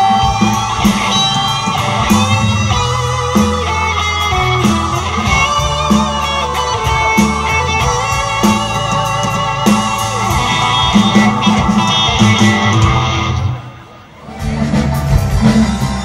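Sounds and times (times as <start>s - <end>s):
bass guitar: 0.0s - 16.0s
drum kit: 0.0s - 16.0s
electric guitar: 0.0s - 16.0s
keyboard: 0.0s - 16.0s.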